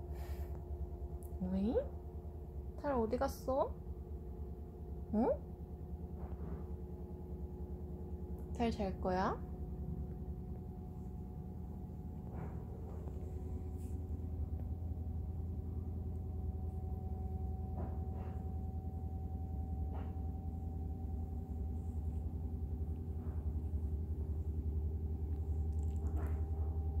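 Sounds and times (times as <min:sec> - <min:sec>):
faint steady whine: 0:00.0 - 0:27.0
steady low hum: 0:00.0 - 0:27.0.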